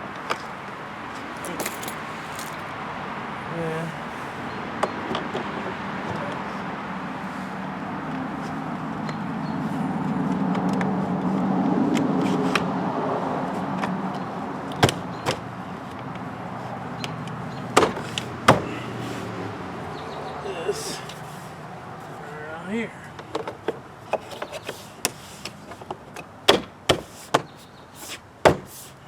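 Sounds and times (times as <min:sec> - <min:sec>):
low vehicle hum: 0:00.0 - 0:24.1.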